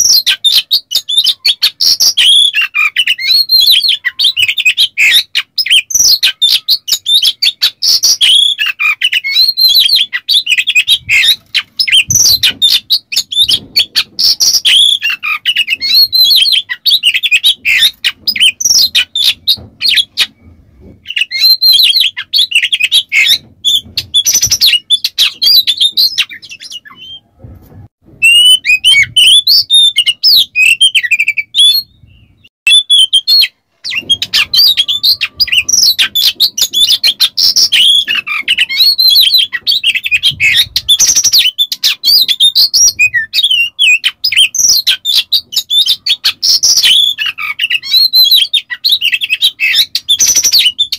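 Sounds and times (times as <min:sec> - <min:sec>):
bird singing: 0:00.0 - 0:27.3, 0:28.2 - 0:50.9.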